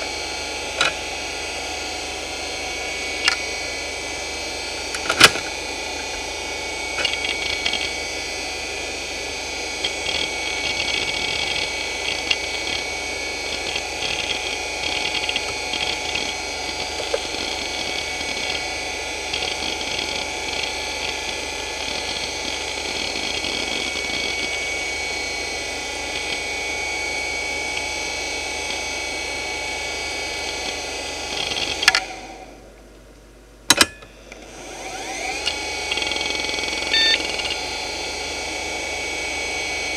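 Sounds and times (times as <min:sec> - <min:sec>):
hard drive spindle whine: 0:00.0 - 0:39.9.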